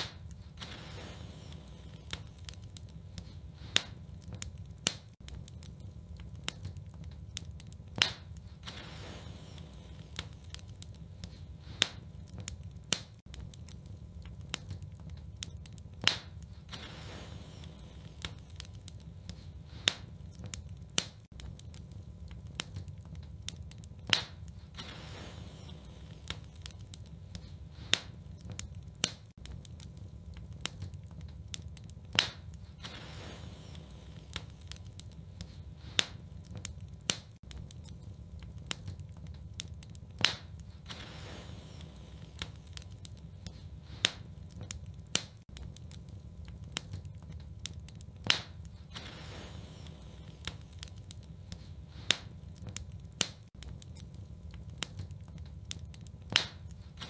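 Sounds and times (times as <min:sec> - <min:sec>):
fire hissing: 0:00.0 - 0:57.0
wood fire crackling: 0:00.0 - 0:57.0.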